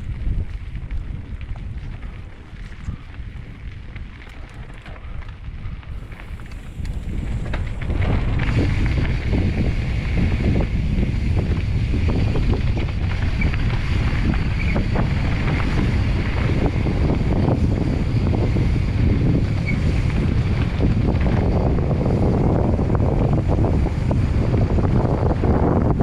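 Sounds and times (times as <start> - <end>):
bike tyres rolling on dirt: 0.0 - 26.0
wind rushing over microphone: 0.0 - 26.0.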